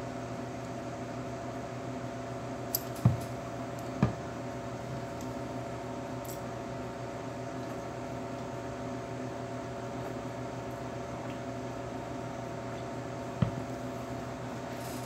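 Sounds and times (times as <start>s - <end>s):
laboratory equipment humming: 0.0s - 15.0s.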